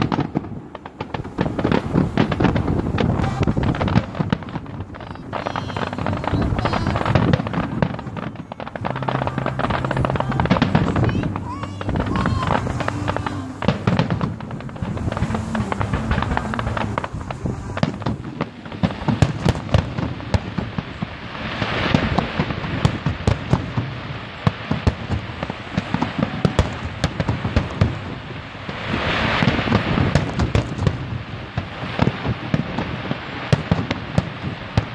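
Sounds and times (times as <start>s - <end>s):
fireworks bursting: 0.0s - 34.9s
rapid crackling pops: 0.0s - 34.9s.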